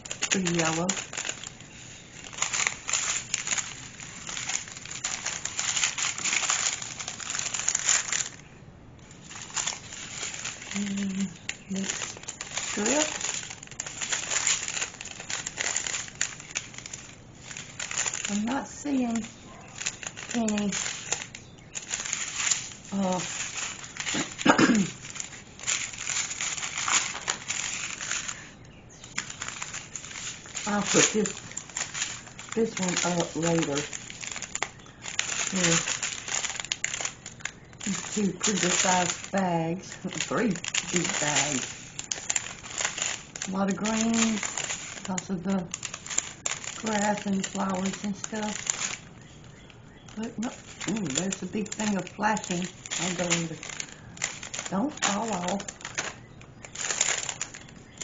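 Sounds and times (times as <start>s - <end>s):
plastic bags crinkling: 0.0s - 58.0s.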